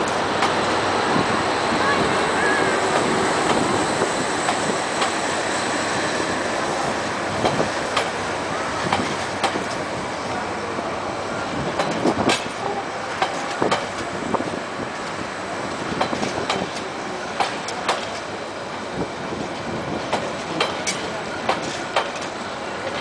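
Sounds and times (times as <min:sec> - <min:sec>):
wheels clacking over rail joints: 0:00.0 - 0:01.3, 0:01.9 - 0:05.4, 0:06.7 - 0:10.4, 0:11.5 - 0:18.4, 0:19.5 - 0:23.0
train coaches rumbling past: 0:00.0 - 0:23.0.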